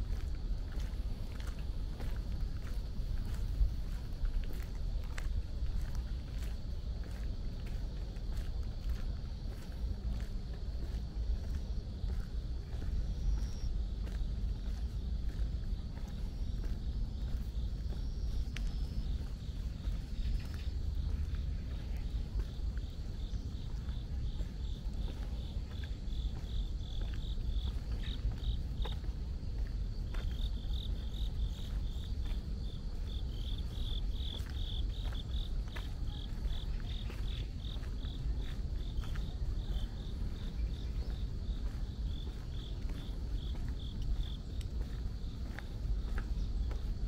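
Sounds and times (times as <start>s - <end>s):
cricket chirping: 0.0s - 47.0s
steady low rumble: 0.0s - 47.0s.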